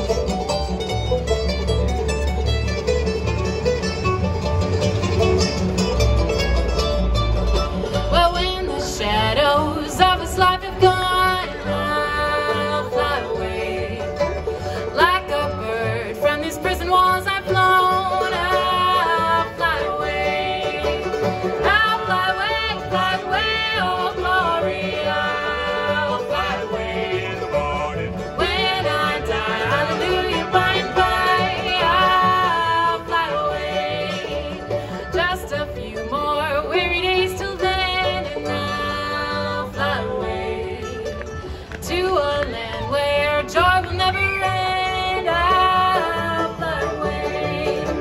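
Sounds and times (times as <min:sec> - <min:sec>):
bluegrass band playing: 0:00.0 - 0:48.0.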